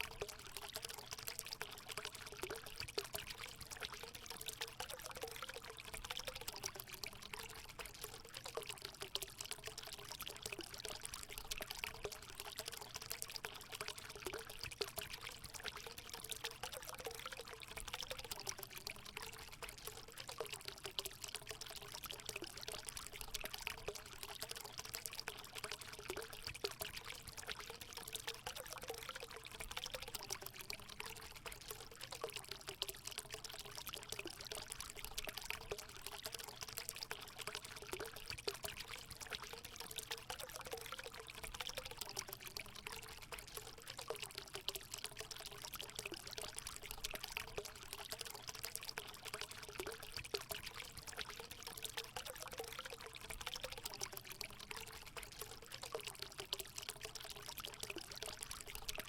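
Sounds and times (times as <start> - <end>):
water pouring into a pool: 0.0 - 59.0.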